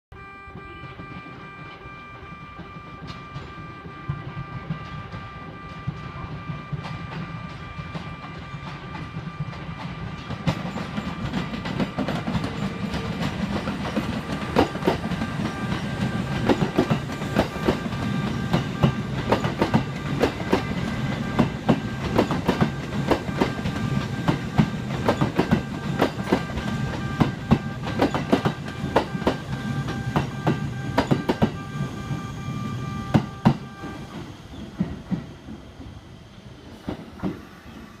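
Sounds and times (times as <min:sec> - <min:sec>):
train low rumble: 0:00.1 - 0:38.0
train wheels clacking: 0:00.7 - 0:38.0.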